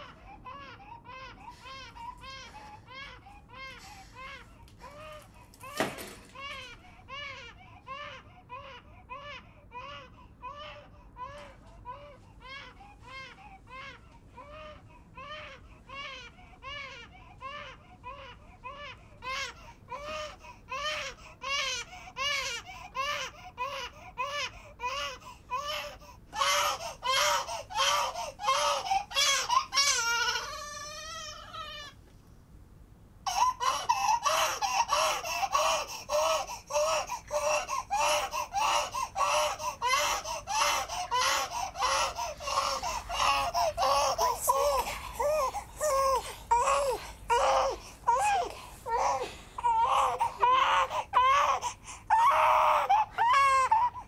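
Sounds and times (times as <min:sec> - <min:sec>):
baby crying: 0:00.0 - 0:32.0, 0:33.3 - 0:54.0.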